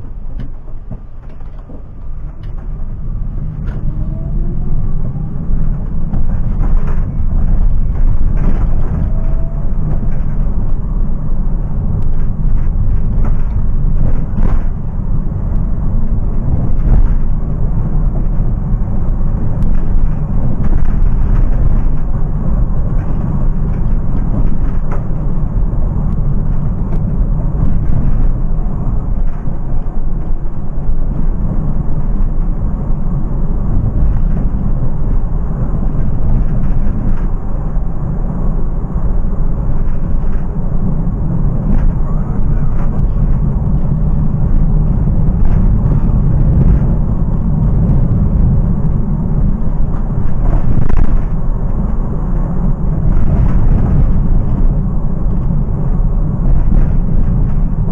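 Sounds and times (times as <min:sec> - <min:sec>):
road and tyre rumble: 0:00.0 - 0:57.9.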